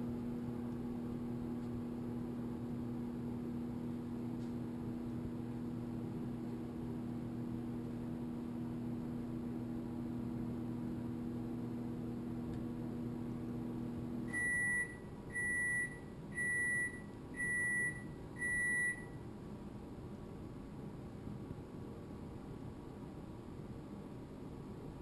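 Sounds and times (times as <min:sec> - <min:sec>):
electric appliance hum: 0:00.0 - 0:25.0.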